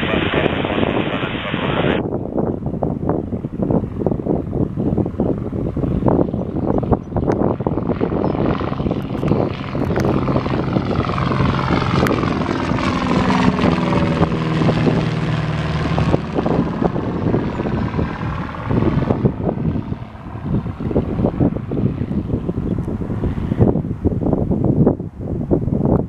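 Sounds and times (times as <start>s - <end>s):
light aircraft engine and propeller: 0.0s - 26.0s.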